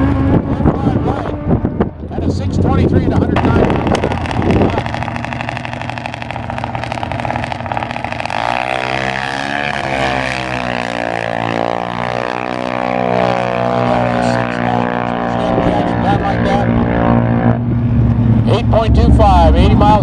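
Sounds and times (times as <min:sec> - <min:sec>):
engine note sweeping in pitch: 0:00.0 - 0:02.2, 0:03.1 - 0:20.0
racing engine running hard: 0:00.0 - 0:20.0.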